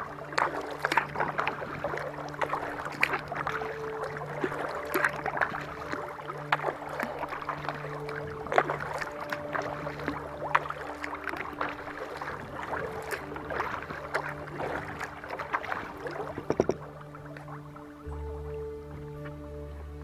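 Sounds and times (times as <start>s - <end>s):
kayak paddle strokes: 0.0s - 20.0s
water splashing and dripping: 0.0s - 20.0s.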